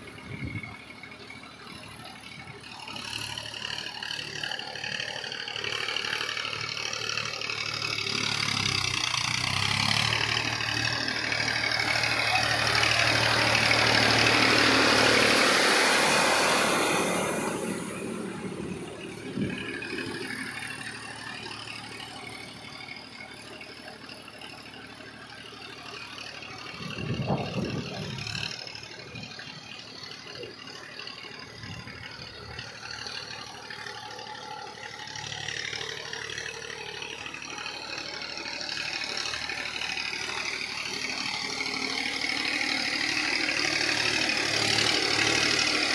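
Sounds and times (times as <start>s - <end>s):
tractor diesel engine: 0.0s - 45.9s.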